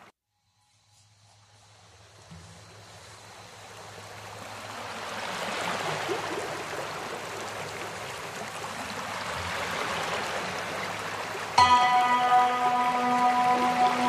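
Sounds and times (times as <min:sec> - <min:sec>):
running water: 0:02.2 - 0:14.0.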